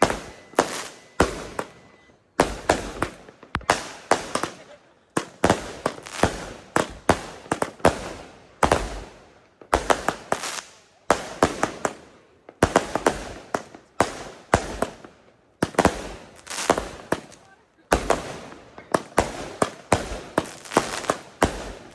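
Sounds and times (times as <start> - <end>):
firework bangs: 0.0 - 21.9.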